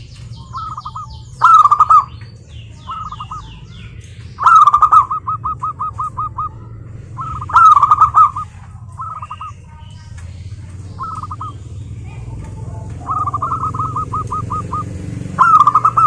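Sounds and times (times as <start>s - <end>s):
dove cooing: 0.0s - 16.0s
steady low hum: 0.0s - 16.0s.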